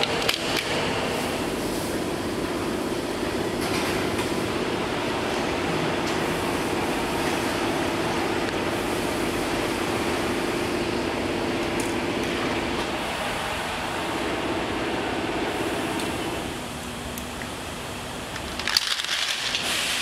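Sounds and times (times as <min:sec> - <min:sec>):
mechanical running noise with hum: 0:00.0 - 0:20.0.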